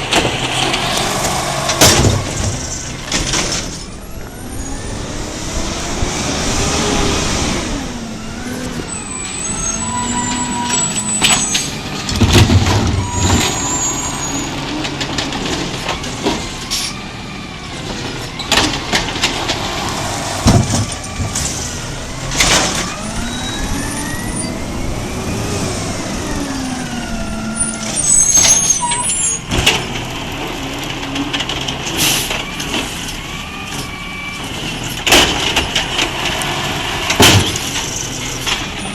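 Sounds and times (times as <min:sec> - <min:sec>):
garbage truck engine revving: 0:00.0 - 0:38.9.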